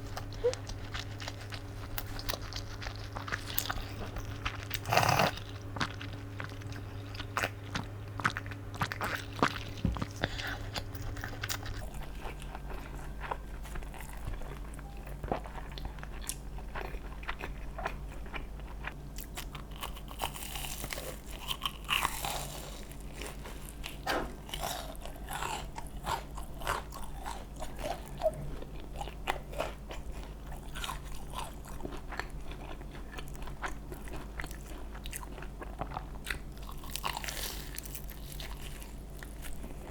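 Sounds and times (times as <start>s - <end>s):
crunchy bites and chewing: 0.0s - 39.9s
low steady hum: 0.0s - 39.9s.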